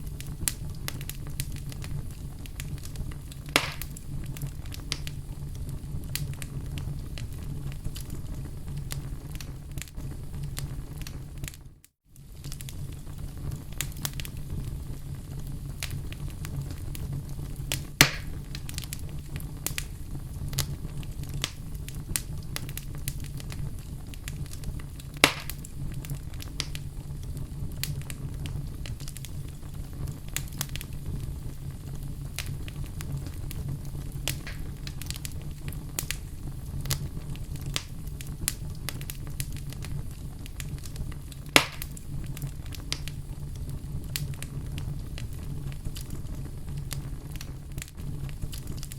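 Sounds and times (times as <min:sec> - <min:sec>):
loud pops of burning wood: 0:00.0 - 0:11.6, 0:12.2 - 0:48.9
fire rumbling and crackling: 0:00.0 - 0:48.9.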